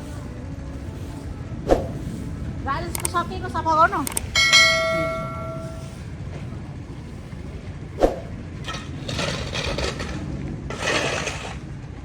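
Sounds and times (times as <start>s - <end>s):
rough scraping: 0.0s - 6.5s, 8.0s - 11.8s.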